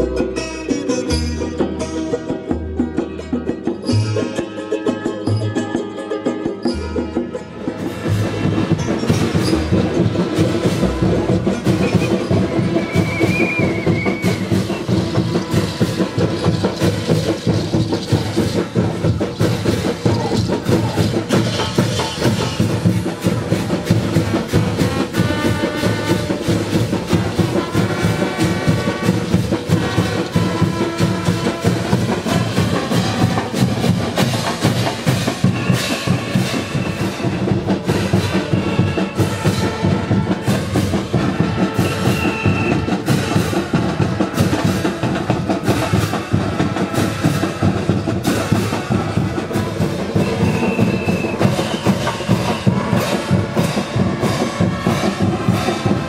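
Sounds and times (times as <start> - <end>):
brass band with drums: 7.1 - 56.0.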